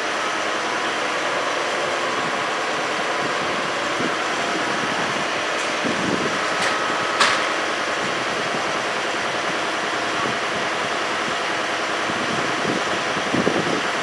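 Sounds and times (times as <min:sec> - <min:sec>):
crane machinery running: 0:00.0 - 0:14.0.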